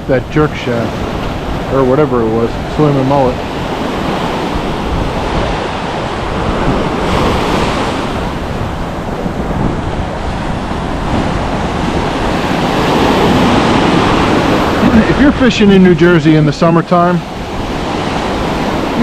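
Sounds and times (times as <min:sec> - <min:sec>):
ocean waves breaking: 0:00.0 - 0:19.0
wind buffeting microphone: 0:00.0 - 0:19.0.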